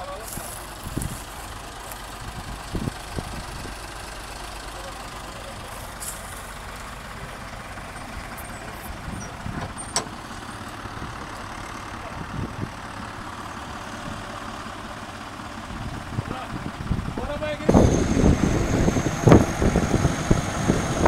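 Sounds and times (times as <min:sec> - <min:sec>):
diesel engines idling: 0:00.0 - 0:21.0.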